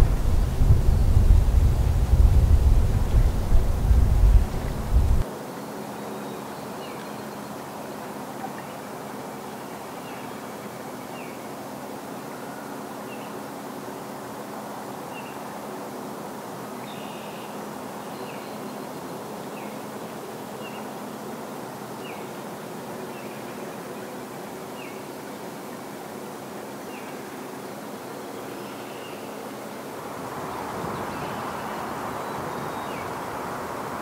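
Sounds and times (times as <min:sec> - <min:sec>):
outdoor ambience hum: 0:00.0 - 0:34.0.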